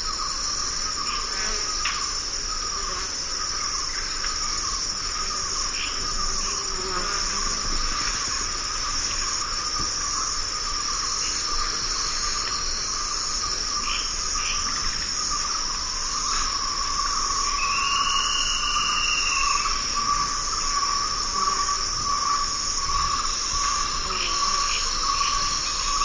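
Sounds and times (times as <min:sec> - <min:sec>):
insects stridulating chorus: 0:00.0 - 0:26.0
rising and falling insect call: 0:00.0 - 0:26.0
short insect chirps: 0:00.0 - 0:26.0.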